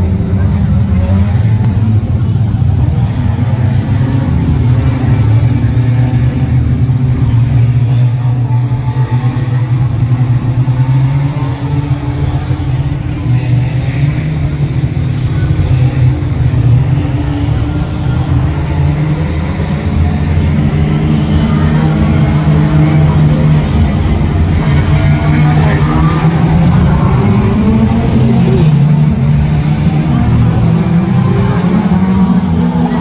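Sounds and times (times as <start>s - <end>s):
race car engines droning: 0.0s - 33.0s.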